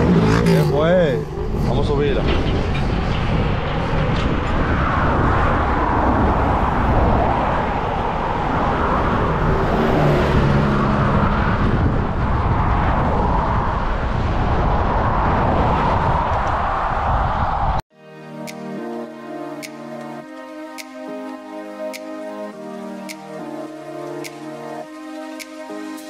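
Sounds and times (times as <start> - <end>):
highway traffic passing: 0.0 - 26.0.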